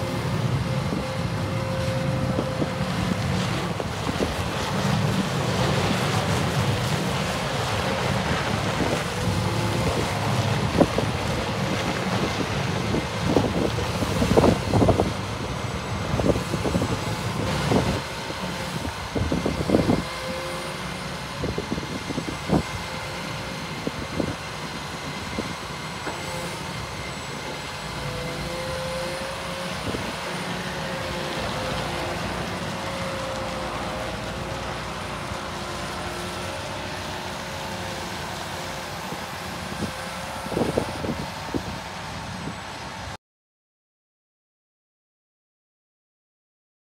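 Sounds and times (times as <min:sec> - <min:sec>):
excavator running: 0:00.0 - 0:43.2.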